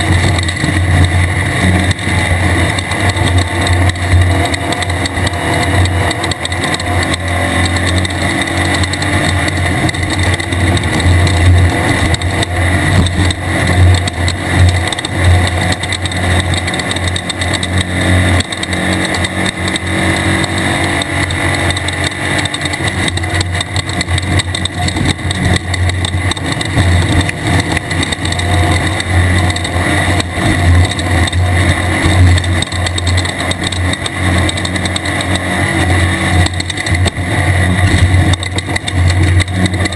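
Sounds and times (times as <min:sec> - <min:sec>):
race car engine drone: 0:00.0 - 0:39.9.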